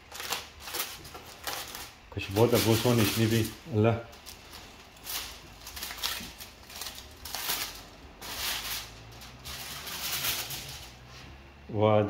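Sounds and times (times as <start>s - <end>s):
aluminium foil crinkling: 0.0s - 11.1s.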